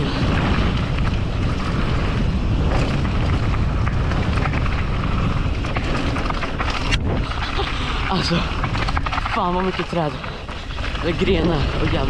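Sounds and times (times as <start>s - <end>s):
bike rattling clicks: 0.0s - 12.0s
bike tyres rumbling on dirt: 0.0s - 12.0s
wind buffeting microphone: 0.0s - 12.0s.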